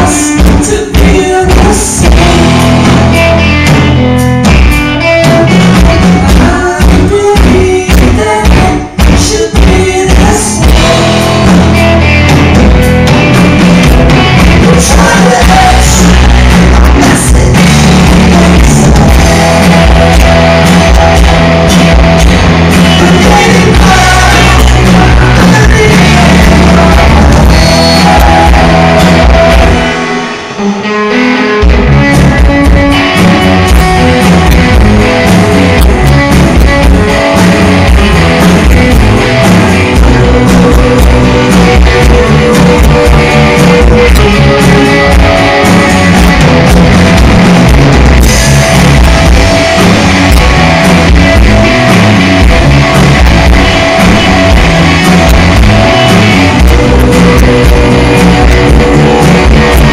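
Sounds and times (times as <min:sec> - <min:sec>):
person singing: 0:00.0 - 0:03.5, 0:05.1 - 0:12.1, 0:13.8 - 0:59.9
bass guitar: 0:00.0 - 0:59.9
drum kit: 0:00.0 - 0:59.9
electric guitars: 0:00.0 - 0:59.9.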